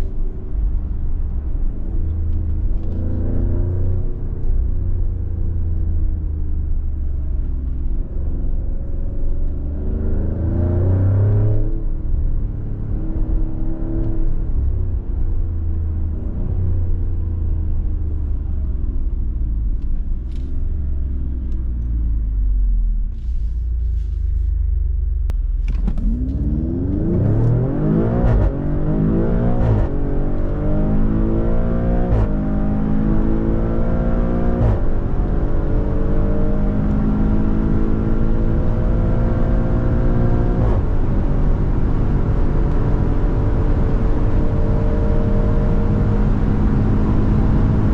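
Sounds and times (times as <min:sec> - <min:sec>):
car engine accelerating through gears: 0:00.0 - 0:47.9.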